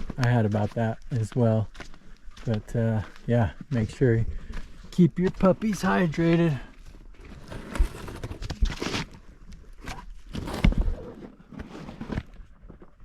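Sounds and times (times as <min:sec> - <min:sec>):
footsteps crunching on dirt: 0:00.0 - 0:13.0.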